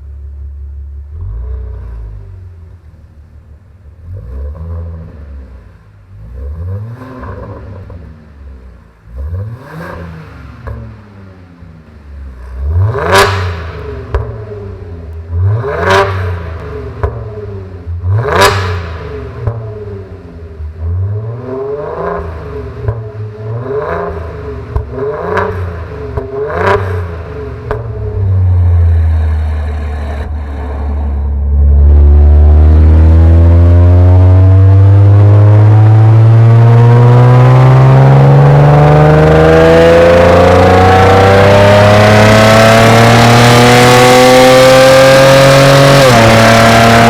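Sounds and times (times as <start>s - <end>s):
car engine revving: 1.1s - 47.0s.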